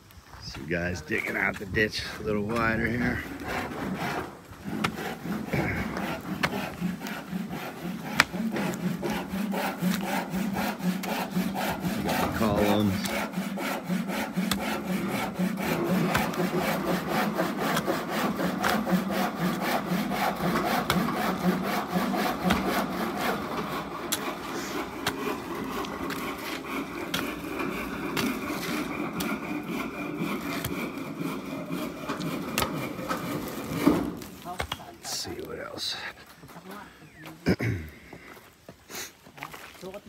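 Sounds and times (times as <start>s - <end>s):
hand tool rasping and scraping: 0.5s - 35.2s.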